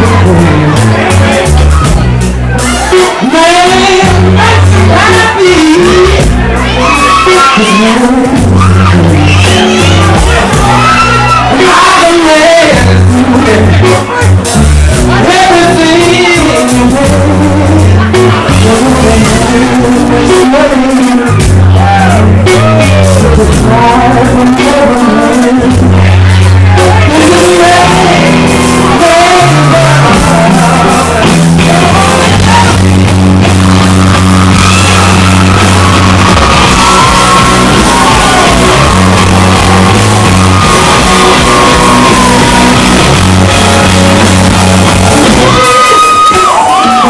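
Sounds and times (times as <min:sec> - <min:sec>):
live blues rock band playing: 0:00.0 - 0:47.0
wailing electric guitar lead: 0:02.6 - 0:14.3, 0:14.9 - 0:47.0.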